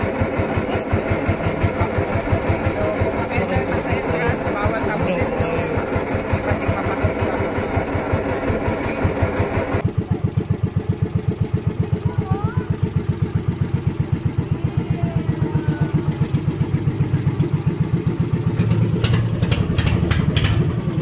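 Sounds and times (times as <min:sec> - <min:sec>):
boat engine putter: 0:00.0 - 0:21.0.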